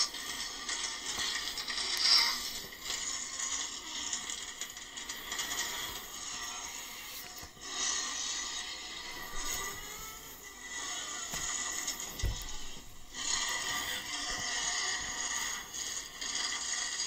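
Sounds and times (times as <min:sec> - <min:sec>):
rattling and scraping noise: 0:00.0 - 0:17.0.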